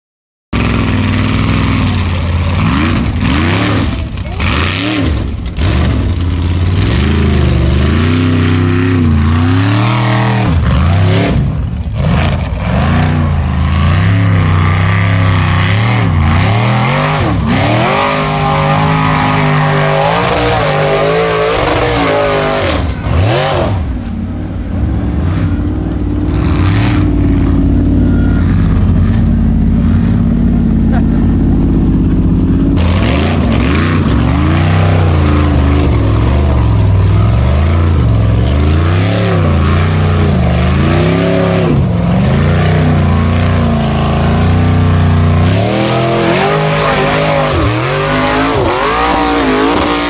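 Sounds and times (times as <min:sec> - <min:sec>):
buggy engine revving: 0:00.5 - 0:50.0.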